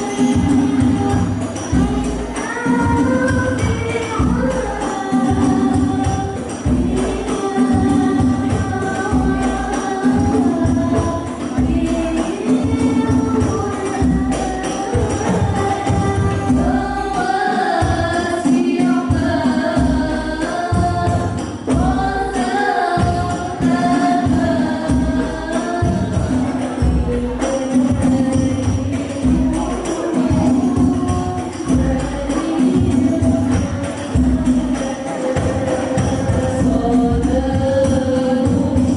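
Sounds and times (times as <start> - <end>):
frame drums with jingles: 0.0 - 38.9
group singing in unison: 0.0 - 38.9.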